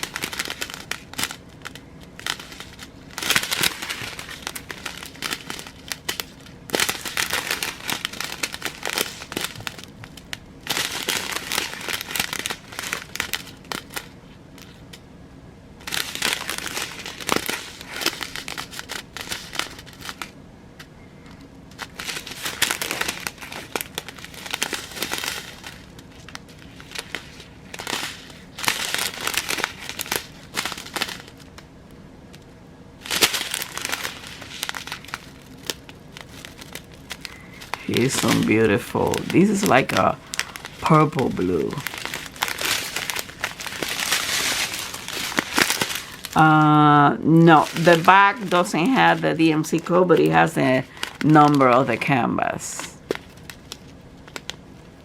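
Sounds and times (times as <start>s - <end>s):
plastic bags crinkling: 0.0s - 15.0s, 15.8s - 55.0s.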